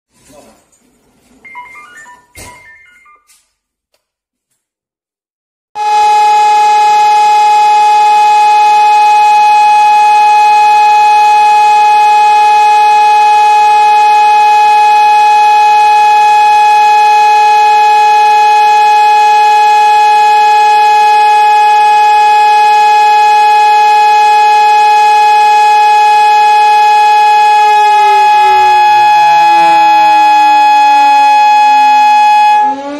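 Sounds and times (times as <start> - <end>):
two-tone alarm siren: 5.8 - 32.9.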